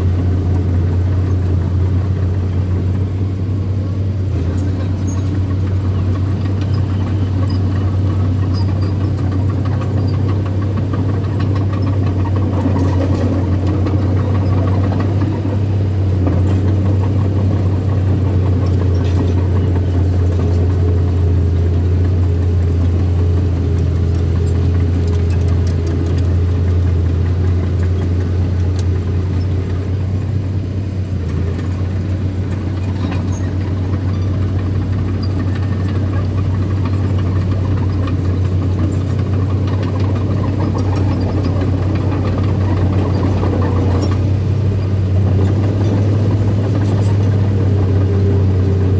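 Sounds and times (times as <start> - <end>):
earthmoving machine engine running: 0.0 - 48.9
faint clicks and clanks: 4.4 - 21.0, 22.0 - 30.5, 31.2 - 48.3.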